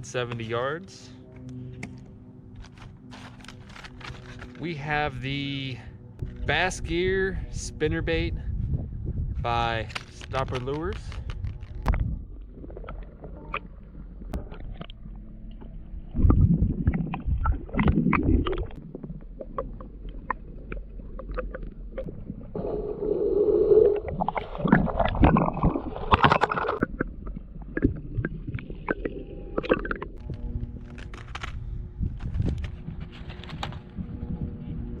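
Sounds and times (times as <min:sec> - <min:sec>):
muffled underwater rumbling and gurgling: 0:00.0 - 0:35.0.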